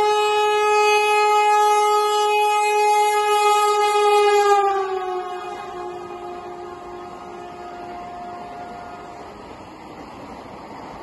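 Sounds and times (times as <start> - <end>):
train horn blast: 0.0 - 9.8.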